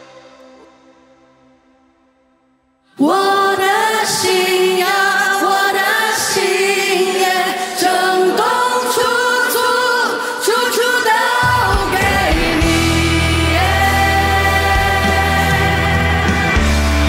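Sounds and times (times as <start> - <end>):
women singing in harmony: 2.9 - 17.0.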